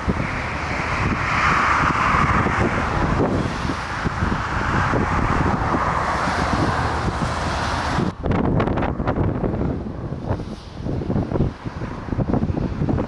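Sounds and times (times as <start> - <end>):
jet engines roaring: 0.0 - 13.0
wind rumbling on microphone: 0.0 - 13.0.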